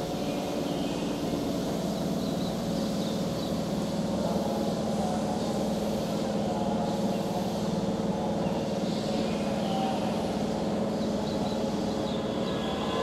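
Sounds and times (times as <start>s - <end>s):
electric train humming: 0.0s - 13.0s.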